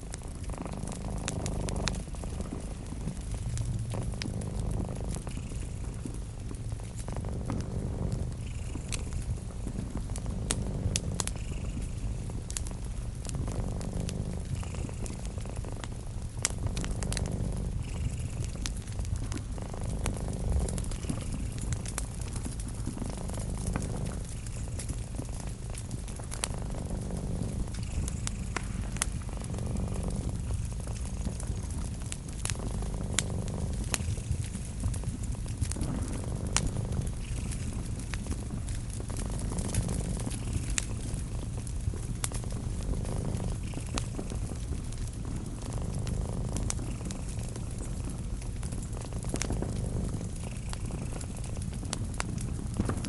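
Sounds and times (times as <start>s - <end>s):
cat purring: 0.0s - 53.0s
wood fire crackling: 0.0s - 53.0s
sharp fire pops: 6.5s - 53.0s.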